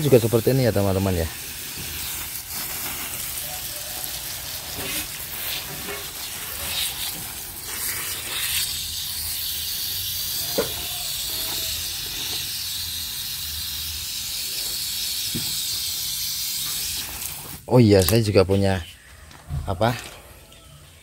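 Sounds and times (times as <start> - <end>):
water spraying from a hose: 0.0 - 18.2.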